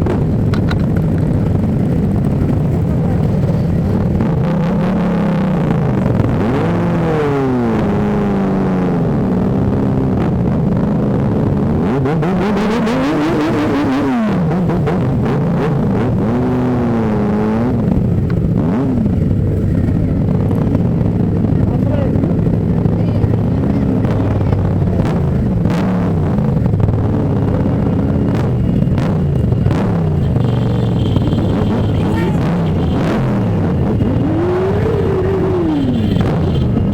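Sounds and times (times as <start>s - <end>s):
motorcycle engines revving: 0.0s - 36.9s.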